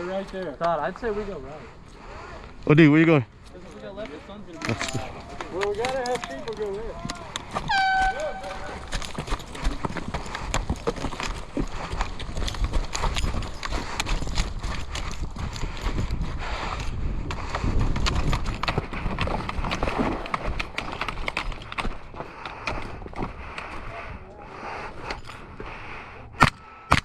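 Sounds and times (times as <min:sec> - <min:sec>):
footsteps: 0:03.4 - 0:26.1
gear rattling: 0:03.5 - 0:25.9.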